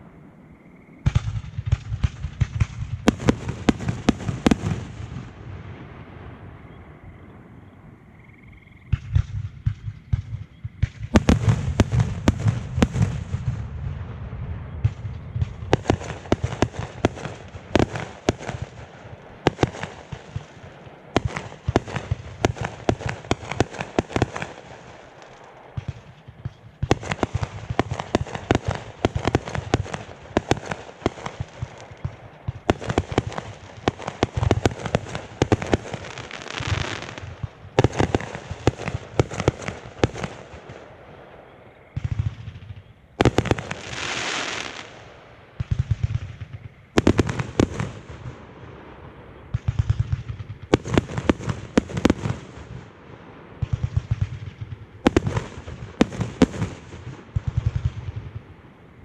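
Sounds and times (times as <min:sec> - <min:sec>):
heavy low fireworks booms: 0:00.0 - 0:59.0
fireworks bangs and crackles: 0:00.9 - 0:07.6, 0:08.8 - 0:59.0.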